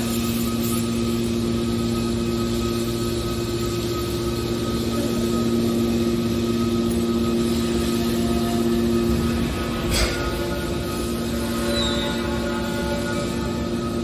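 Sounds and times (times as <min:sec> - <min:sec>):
hydraulic pump humming and whining: 0:00.0 - 0:14.0.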